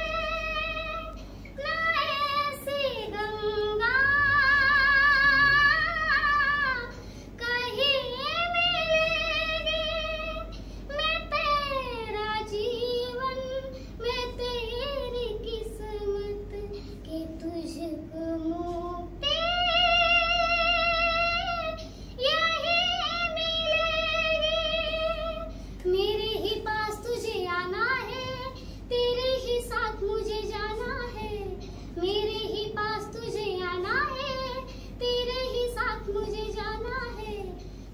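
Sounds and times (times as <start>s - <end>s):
girl singing unaccompanied: 0.0s - 37.9s.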